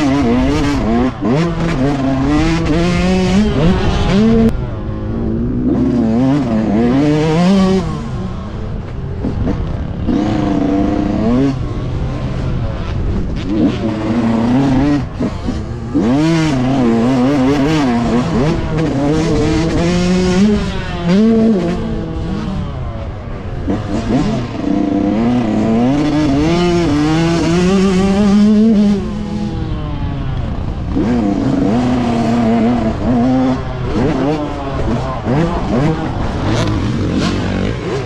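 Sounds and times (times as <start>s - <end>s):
motocross engine revving: 0.0s - 38.0s.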